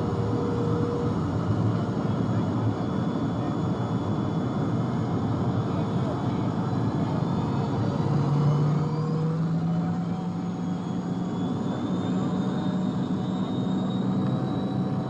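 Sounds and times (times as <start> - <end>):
faint high whine: 0.0 - 15.0
jet engine noise: 0.0 - 15.0.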